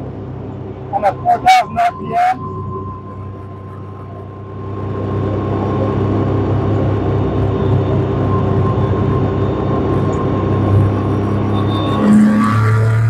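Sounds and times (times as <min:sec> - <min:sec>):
engine running at steady revs: 0:00.0 - 0:13.0.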